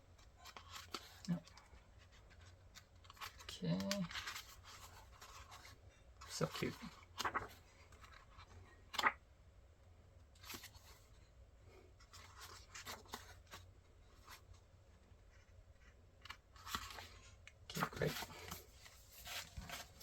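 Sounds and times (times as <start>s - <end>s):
paper pages turning and rustling: 0.2s - 9.2s, 10.4s - 11.1s, 12.0s - 14.6s, 15.3s - 20.0s.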